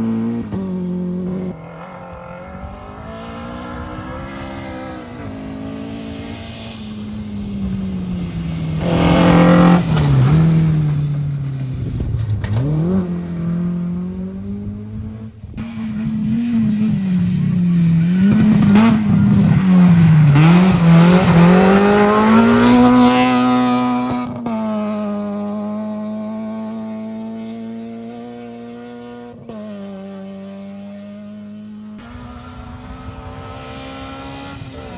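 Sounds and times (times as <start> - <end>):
rally cars passing at full throttle: 0.0 - 34.9.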